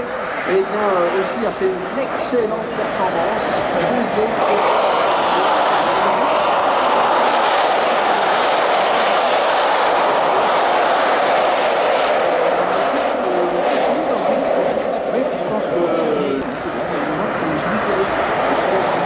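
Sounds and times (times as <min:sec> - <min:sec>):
racing cars passing: 0:00.0 - 0:19.0.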